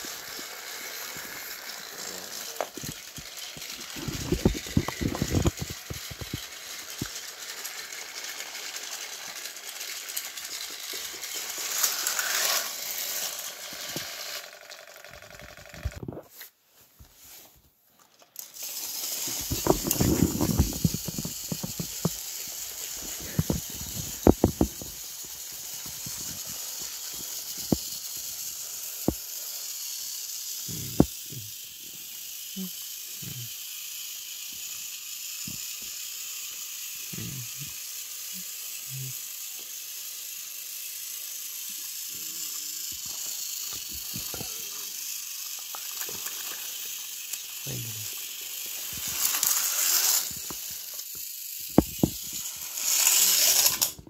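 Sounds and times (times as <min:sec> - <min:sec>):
plastic toys clicking: 0:00.0 - 0:16.0, 0:18.0 - 0:54.0
toy train motor whirring: 0:00.0 - 0:54.0.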